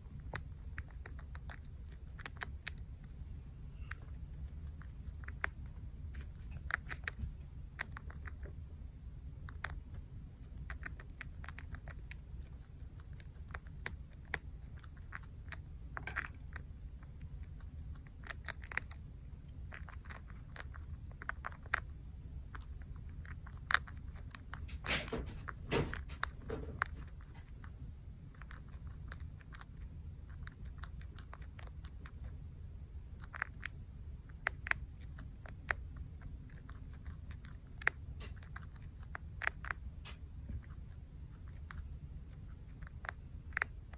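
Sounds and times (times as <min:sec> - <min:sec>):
low steady hum: 0:00.0 - 0:43.9
chinchilla chewing leaves: 0:00.1 - 0:08.6, 0:09.4 - 0:32.4, 0:33.1 - 0:43.9.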